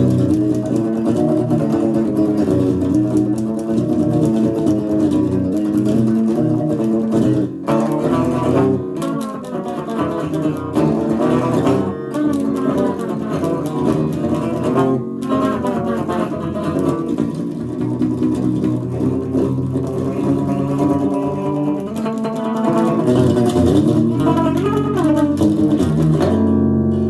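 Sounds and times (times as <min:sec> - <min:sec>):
unplugged electric guitar riff: 0:00.0 - 0:27.0.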